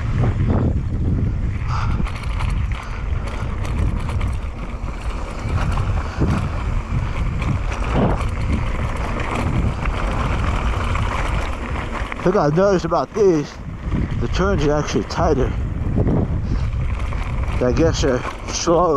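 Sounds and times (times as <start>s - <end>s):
bike knocking and rattling: 0.0s - 18.9s
wind buffeting microphone: 0.0s - 18.9s
tyres rolling over dirt: 1.5s - 18.9s.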